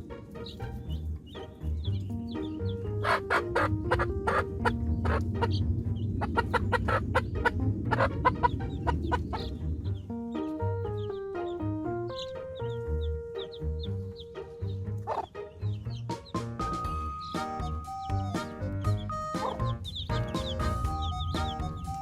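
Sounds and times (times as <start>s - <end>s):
playful bouncy music: 0.0s - 22.0s.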